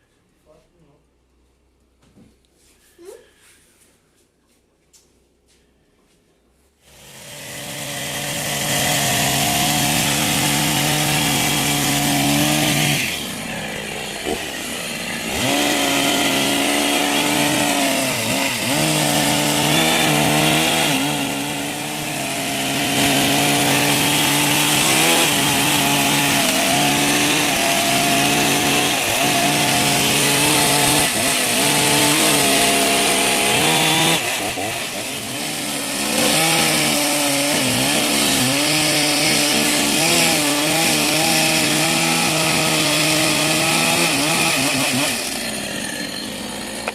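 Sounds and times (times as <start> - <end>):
chainsaw cutting wood: 6.8 - 46.9.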